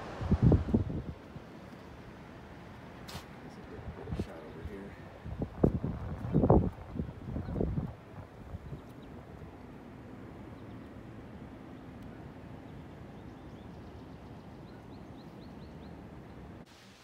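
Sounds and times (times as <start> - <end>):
low outdoor rumble: 0.0 - 16.6.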